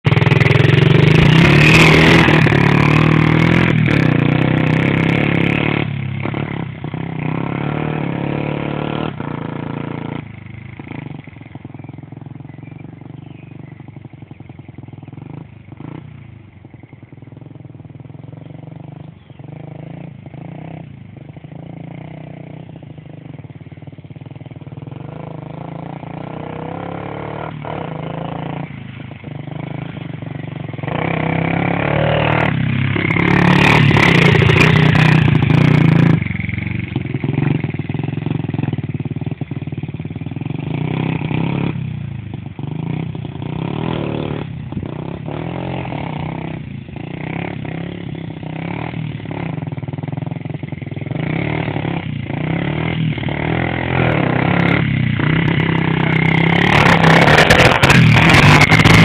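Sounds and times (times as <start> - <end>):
small motorbike engine revving: 0.1 - 10.2, 17.3 - 59.0.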